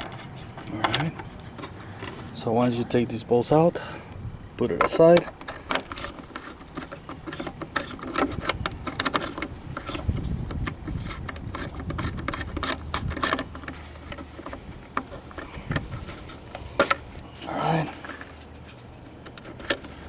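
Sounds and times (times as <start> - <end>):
hand tools clicking and rattling: 0.0 - 20.0.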